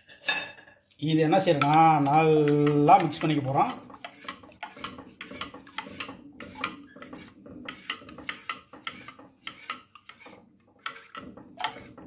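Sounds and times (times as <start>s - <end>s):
hand squelching batter: 1.2s - 12.0s.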